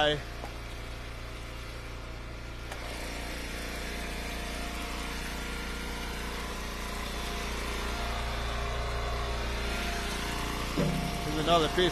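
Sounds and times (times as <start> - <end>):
log splitter engine running: 0.0 - 11.9.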